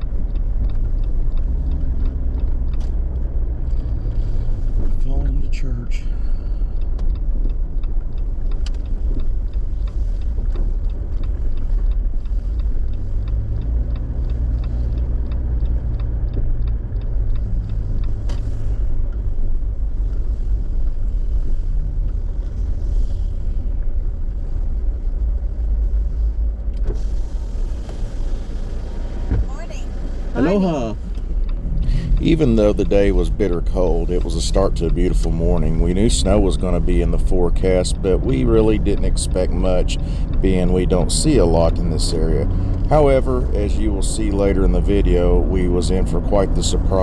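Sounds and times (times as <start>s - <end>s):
car engine and tyres rumbling: 0.0s - 47.0s.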